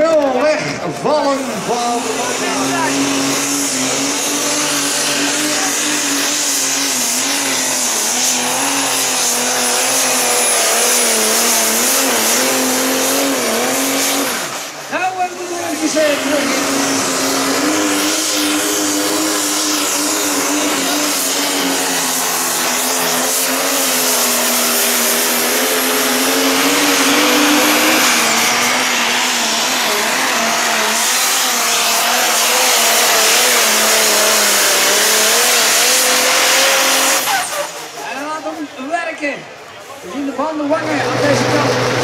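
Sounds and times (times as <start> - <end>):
diesel engine droning under load: 0.0 - 38.8, 39.4 - 42.0.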